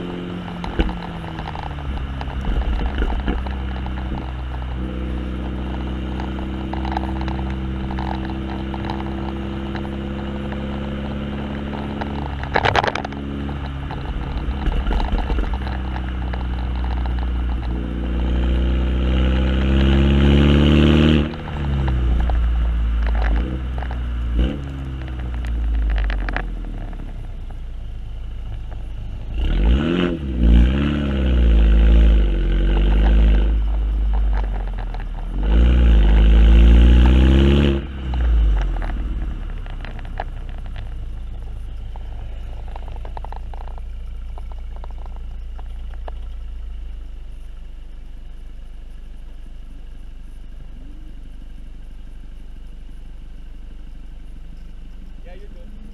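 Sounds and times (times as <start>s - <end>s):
car exhaust revving: 0.0s - 55.9s
exhaust pops: 0.0s - 55.9s.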